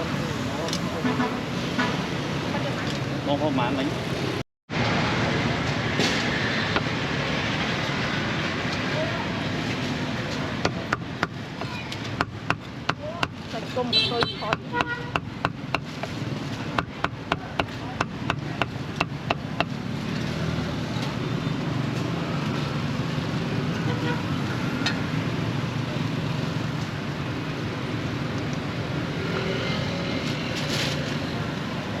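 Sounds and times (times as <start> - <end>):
street traffic noise: 0.0 - 32.0.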